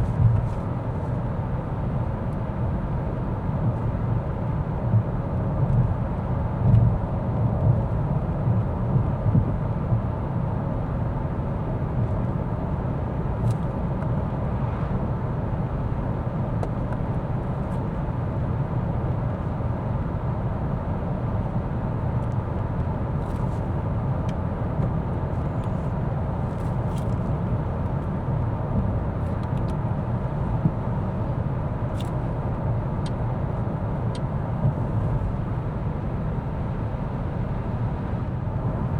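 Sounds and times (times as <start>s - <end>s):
engine hum: 0.0s - 38.9s.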